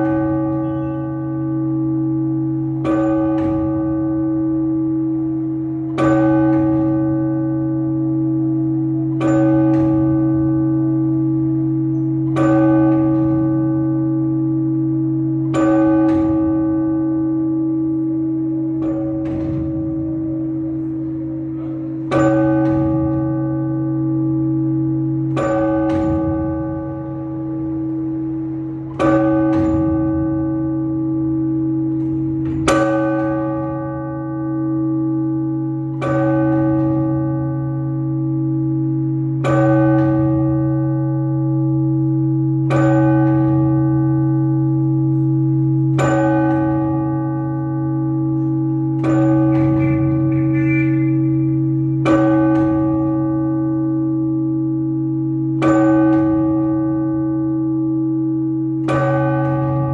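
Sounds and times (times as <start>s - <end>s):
deep church bell strokes: 0.0s - 59.9s.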